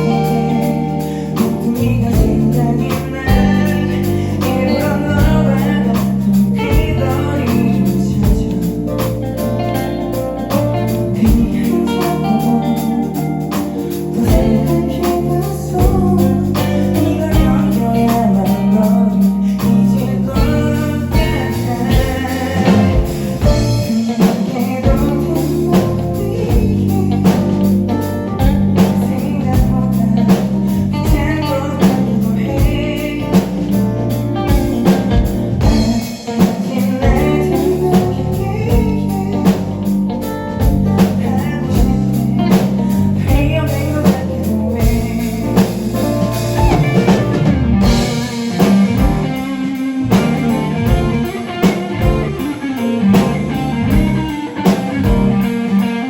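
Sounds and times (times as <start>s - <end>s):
live band guitar and drums: 0.0s - 56.0s
person singing: 0.0s - 56.0s.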